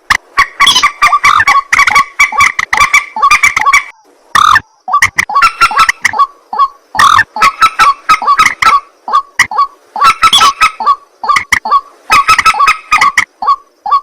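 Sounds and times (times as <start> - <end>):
waterhen harsh honking calls: 0.4 - 14.0.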